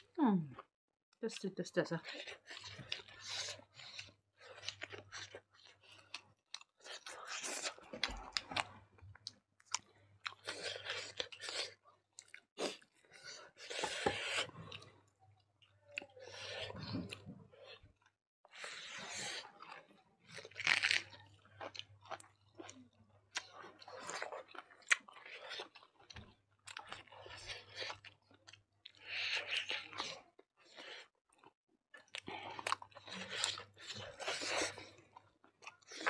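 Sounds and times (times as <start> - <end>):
people chewing food: 0.0 - 36.0.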